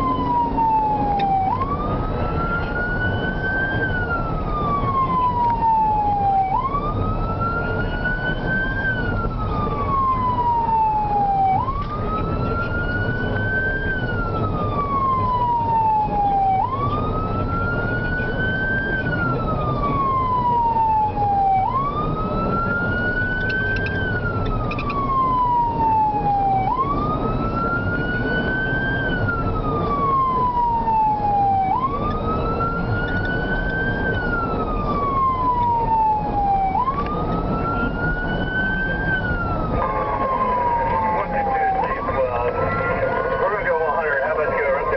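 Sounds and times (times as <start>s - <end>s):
engine and road rumble: 0.0s - 44.9s
siren wailing: 0.0s - 44.9s.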